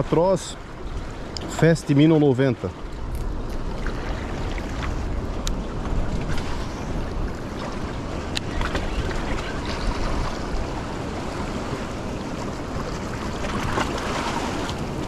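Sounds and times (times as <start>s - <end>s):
wind rumbling on microphone: 0.0s - 15.0s
small waves washing against rocks: 1.0s - 15.0s.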